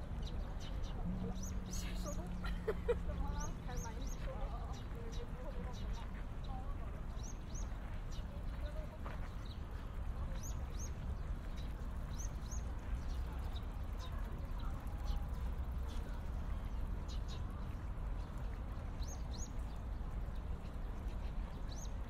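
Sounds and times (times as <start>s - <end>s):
low park ambience rumble: 0.0s - 22.0s
small birds chirping: 0.0s - 22.0s.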